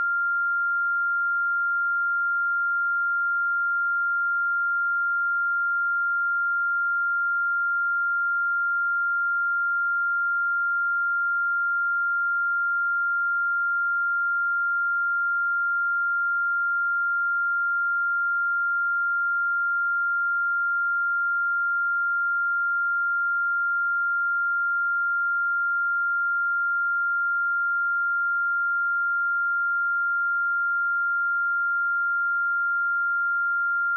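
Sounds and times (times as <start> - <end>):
electronic sine tone: 0.0 - 33.9.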